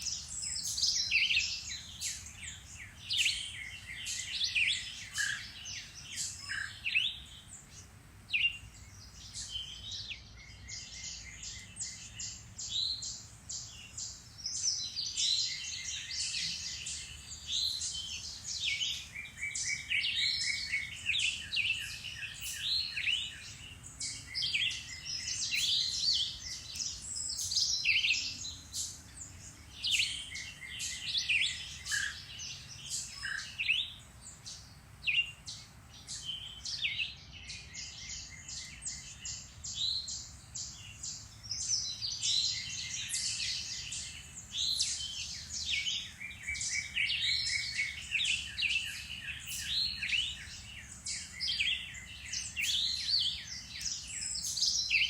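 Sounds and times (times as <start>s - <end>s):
songbirds chorus: 0.0s - 55.0s.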